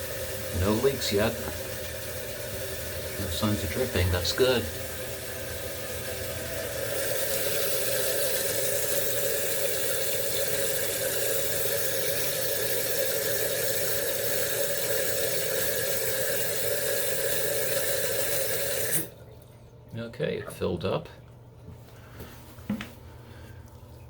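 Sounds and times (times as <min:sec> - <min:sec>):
toilet tank refilling: 0:00.0 - 0:21.2, 0:22.8 - 0:24.0.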